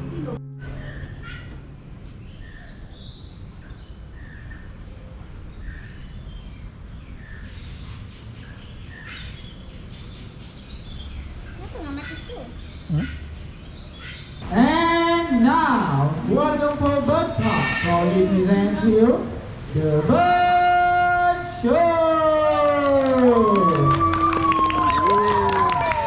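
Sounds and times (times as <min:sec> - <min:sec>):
birds chirping: 0:00.0 - 0:26.0
low background noise: 0:00.0 - 0:26.0.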